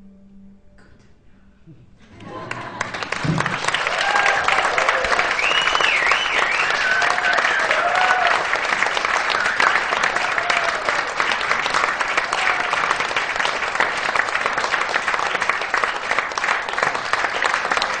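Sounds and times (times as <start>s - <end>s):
audience applauding: 2.0s - 18.0s.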